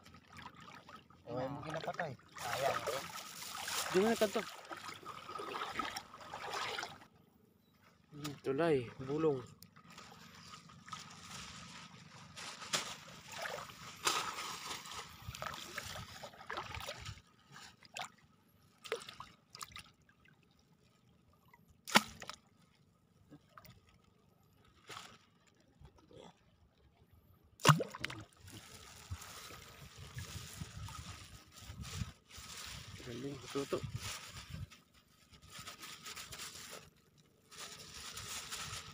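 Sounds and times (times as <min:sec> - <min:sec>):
seawater sloshing and splashing: 0:00.0 - 0:07.2, 0:07.9 - 0:25.6, 0:27.6 - 0:38.9.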